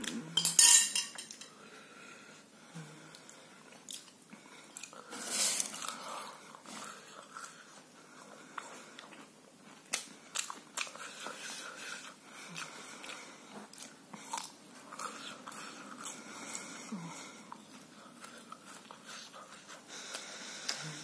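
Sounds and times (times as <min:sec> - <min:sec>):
person chewing crispy food: 0:03.1 - 0:21.0.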